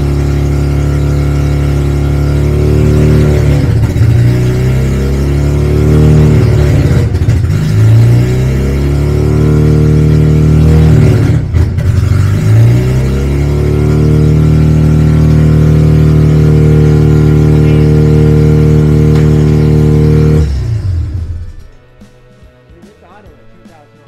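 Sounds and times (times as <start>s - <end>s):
loud rotary engine running: 0.0s - 24.0s.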